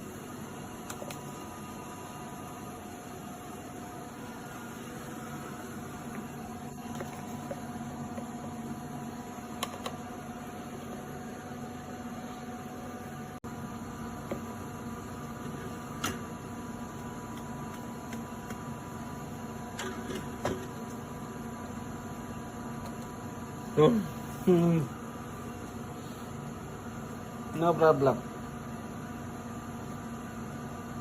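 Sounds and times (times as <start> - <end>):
mechanical hum of equipment: 0.0 - 31.0.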